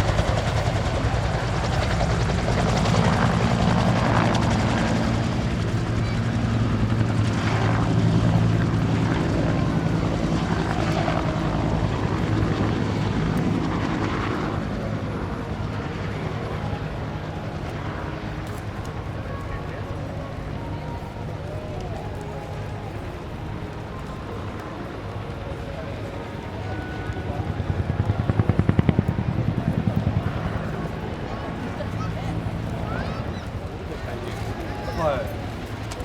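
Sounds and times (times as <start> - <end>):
helicopter rotor beating: 0.0 - 36.0.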